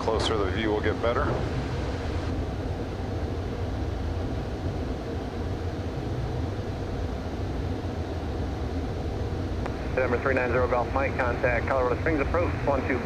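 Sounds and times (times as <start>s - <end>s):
jet cabin hum: 0.0s - 13.0s.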